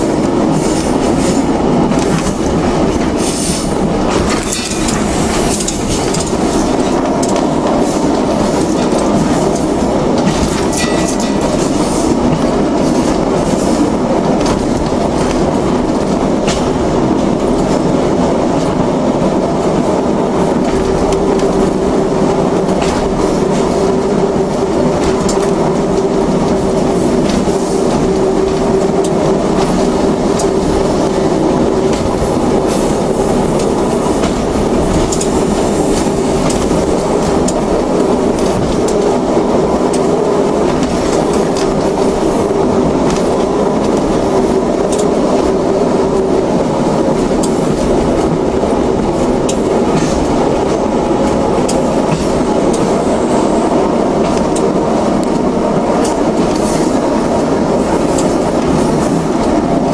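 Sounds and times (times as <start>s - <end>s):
diesel train engine hum: 0.0s - 59.9s
wheels clicking over rail joints: 0.0s - 59.9s.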